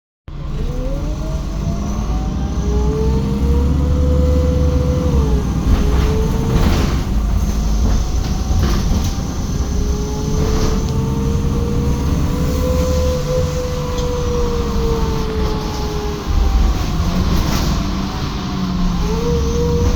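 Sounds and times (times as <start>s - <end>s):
bus engine rumbling: 0.3s - 19.9s
rising engine whine: 0.3s - 19.9s.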